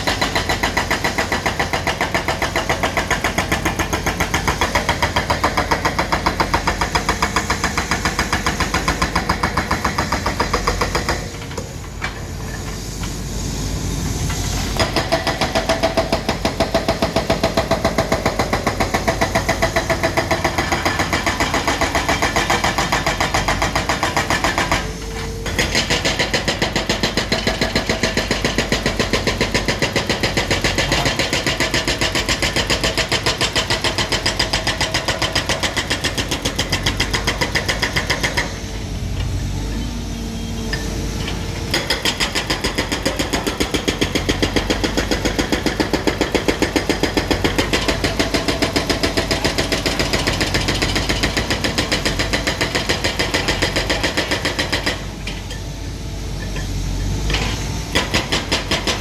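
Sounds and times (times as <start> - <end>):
hydraulic breaker hammering pavement: 0.0 - 12.2, 14.8 - 38.6, 41.6 - 55.6, 57.2 - 59.0.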